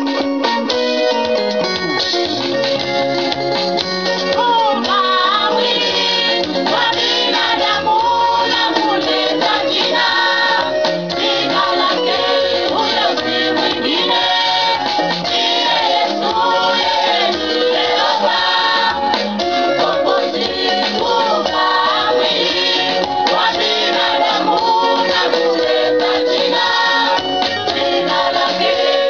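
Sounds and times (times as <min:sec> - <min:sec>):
instrumental accompaniment: 0:00.0 - 0:29.0
women's choir singing gospel: 0:04.4 - 0:29.0.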